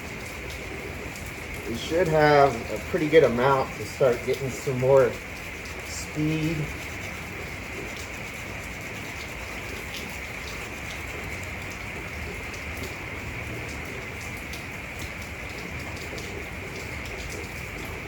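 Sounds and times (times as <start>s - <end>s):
raindrop ticks: 0.0s - 18.0s
steady rain hiss: 0.0s - 18.0s.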